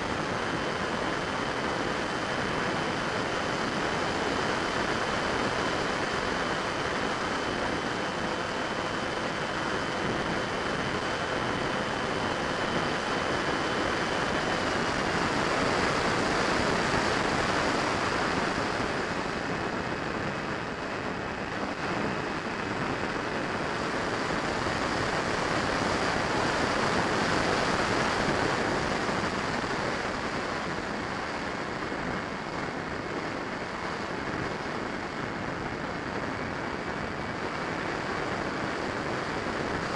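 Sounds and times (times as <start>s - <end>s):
electric ducted fan: 0.0s - 39.9s
faint high whine: 0.0s - 39.9s
wind rushing over microphone: 0.0s - 39.9s.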